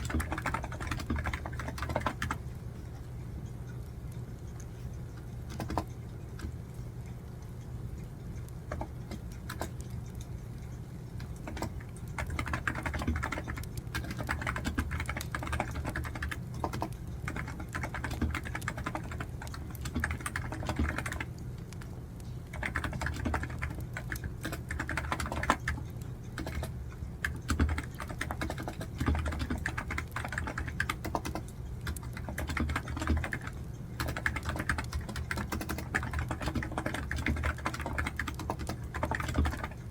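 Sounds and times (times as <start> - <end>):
typing on keyboard: 0.0 - 3.1, 4.4 - 6.6, 8.4 - 39.9.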